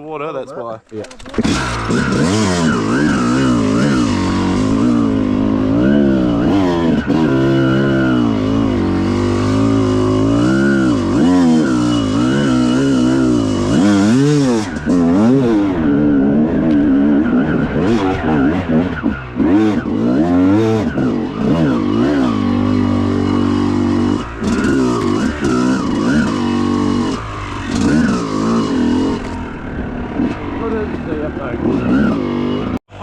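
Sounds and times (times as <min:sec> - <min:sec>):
dirt bike engine revving: 0:01.0 - 0:33.0.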